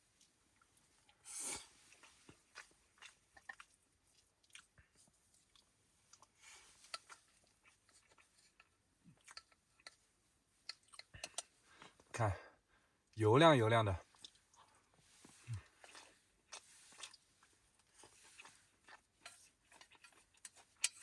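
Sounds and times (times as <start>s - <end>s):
close-up chewing: 0.0s - 12.1s, 14.0s - 21.0s.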